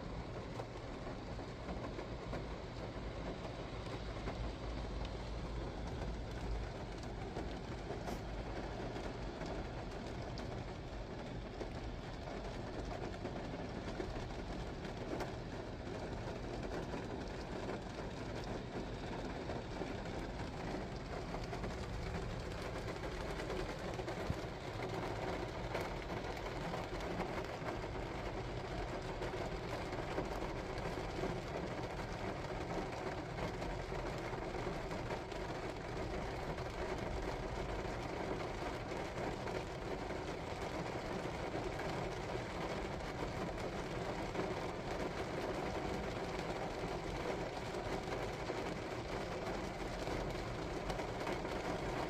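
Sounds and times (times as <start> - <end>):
rain falling on a car: 0.0 - 52.0.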